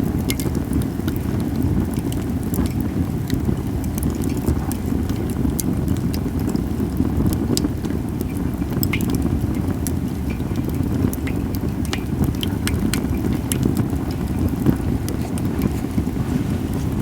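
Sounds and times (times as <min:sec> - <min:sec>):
campfire crackling and popping: 0:00.0 - 0:17.0
fire low rumble: 0:00.0 - 0:17.0.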